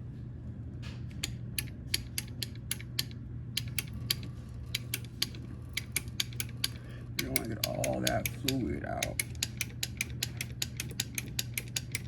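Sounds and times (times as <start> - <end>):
steady low hum: 0.0 - 12.0
sharp mechanical clicks: 1.1 - 12.0.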